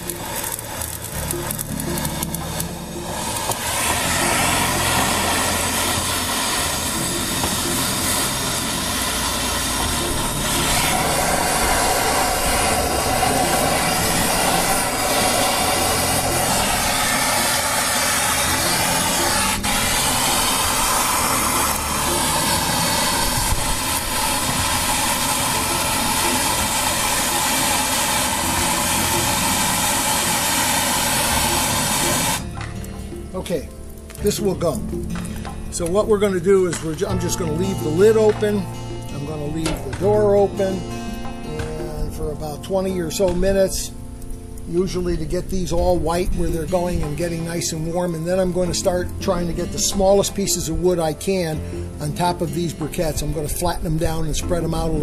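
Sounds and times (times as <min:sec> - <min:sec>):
gas torch hissing flame: 0:00.0 - 0:55.0.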